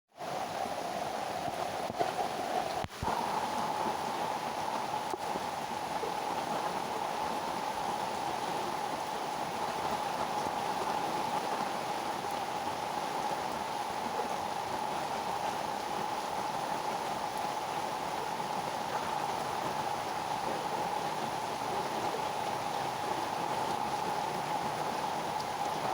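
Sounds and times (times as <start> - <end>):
heavy rain on leaves: 0.2 - 25.9.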